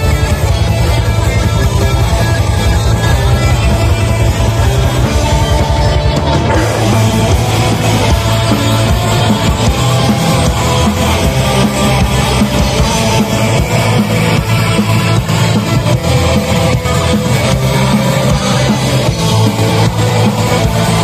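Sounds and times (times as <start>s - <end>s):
metal band playing live: 0.0s - 21.0s.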